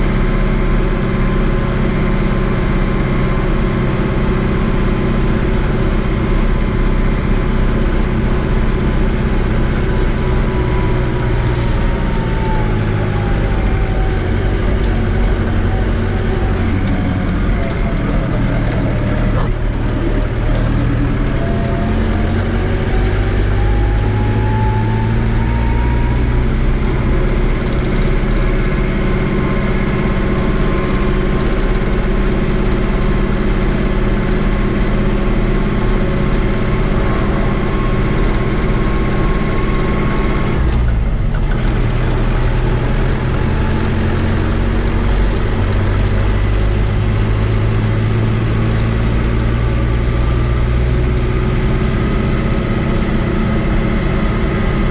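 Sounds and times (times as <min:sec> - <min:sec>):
rising whine: 0:00.0 - 0:54.9
tractor diesel engine running: 0:00.0 - 0:54.9.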